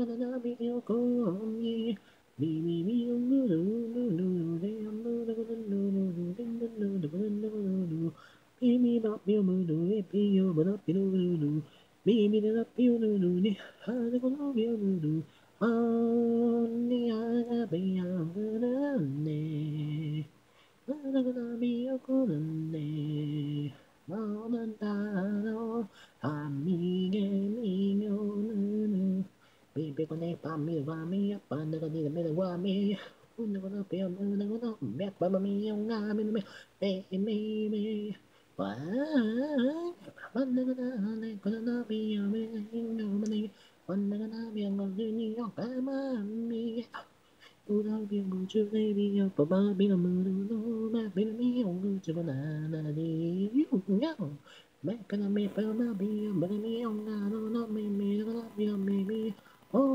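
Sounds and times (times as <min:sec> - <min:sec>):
woman singing a cappella: 0:00.0 - 0:59.9.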